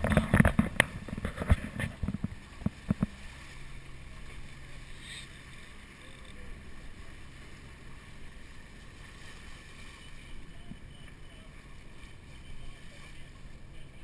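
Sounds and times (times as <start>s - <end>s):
low steady hum: 0.0s - 14.0s
water rushing along hulls: 0.0s - 14.0s.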